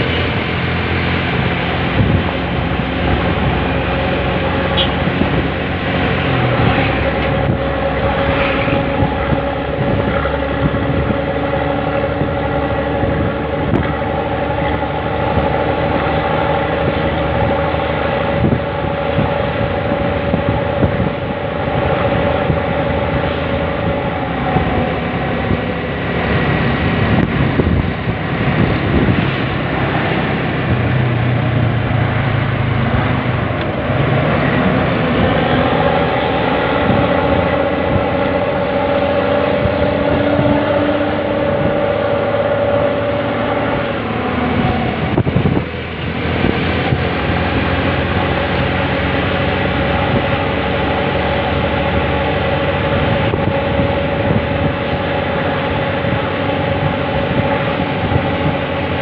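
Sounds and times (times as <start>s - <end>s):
engine and road noise: 0.0s - 59.0s.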